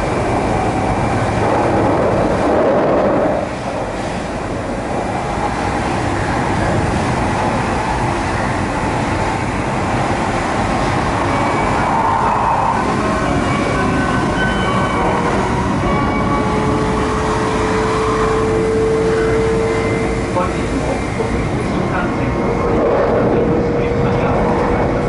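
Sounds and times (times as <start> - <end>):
rushing air: 0.0 - 25.0
train wheels rumbling on rail: 0.0 - 25.0.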